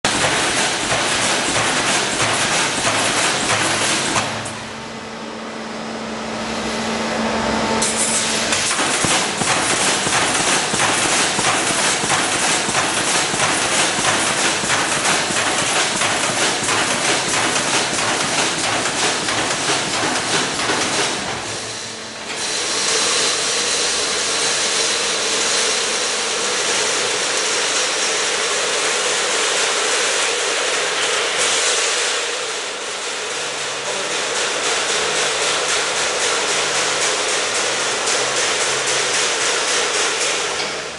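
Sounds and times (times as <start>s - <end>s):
welding machine clatter and hiss: 0.0s - 4.8s, 7.8s - 40.9s.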